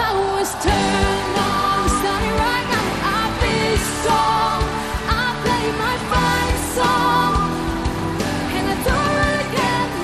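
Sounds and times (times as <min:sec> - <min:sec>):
pop song with drums and singing: 0:00.0 - 0:10.0.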